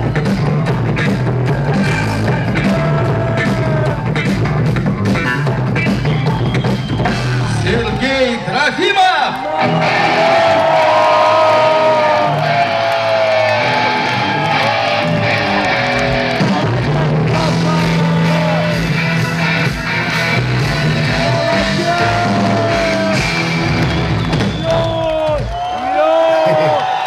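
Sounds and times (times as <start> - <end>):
steady bass line: 0.0 - 8.6, 9.5 - 25.7
guitar: 0.0 - 27.0.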